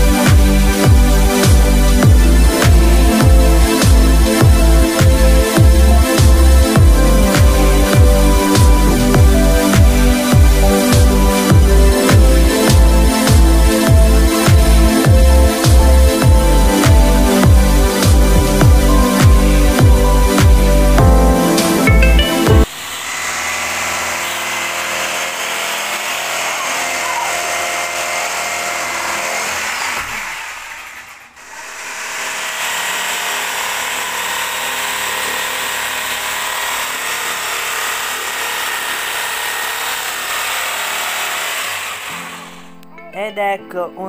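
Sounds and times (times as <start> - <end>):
electric jigsaw cutting: 0.0 - 21.9, 22.6 - 42.7.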